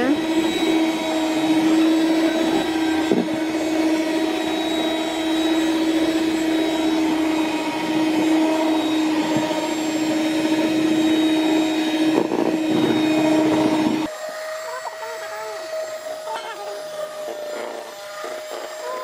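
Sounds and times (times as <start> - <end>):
electric hand mixer whining: 0.0 - 19.0.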